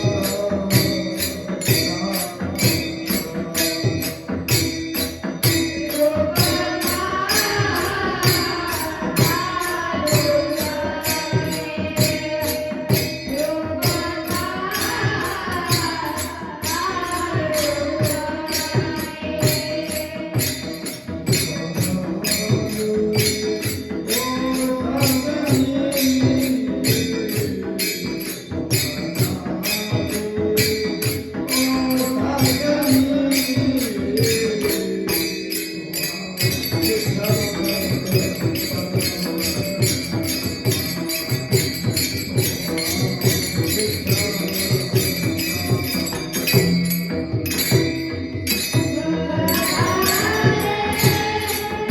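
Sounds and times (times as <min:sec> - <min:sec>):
drum beat: 0:00.0 - 0:51.9
hand cymbals jingling: 0:00.0 - 0:51.9
man singing devotional melody: 0:00.0 - 0:51.9.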